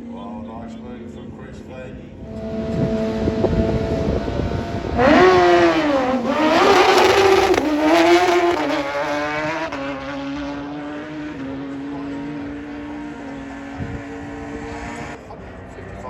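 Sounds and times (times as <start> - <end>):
motorcycle engine at full throttle: 0.0 - 16.0.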